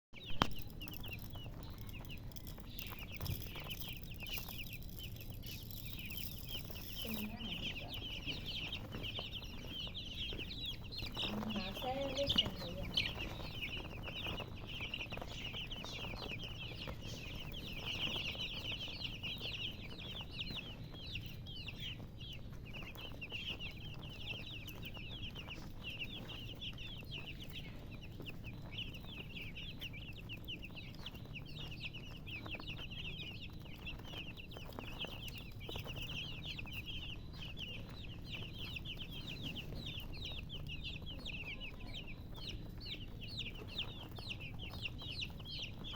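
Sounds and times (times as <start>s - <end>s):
baby chicks peeping: 0.1s - 45.9s.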